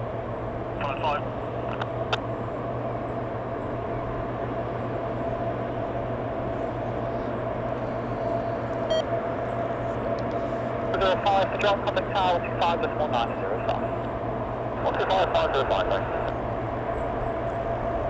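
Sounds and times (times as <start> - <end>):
machinery idling low hum: 0.0 - 18.0
faint high whine: 0.3 - 18.0.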